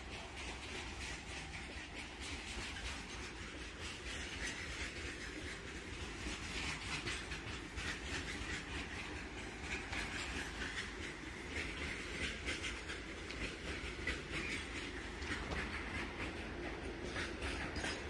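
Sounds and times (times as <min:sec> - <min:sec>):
freight train rumbling past: 0:00.0 - 0:18.0
train wheels clicking over rails: 0:00.0 - 0:18.0.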